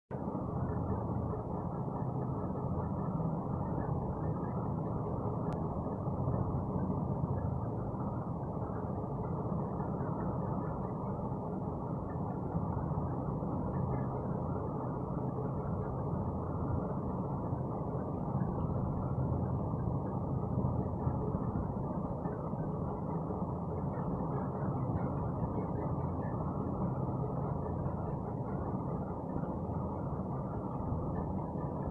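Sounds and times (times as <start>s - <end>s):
low mechanical rumble: 0.1s - 31.9s.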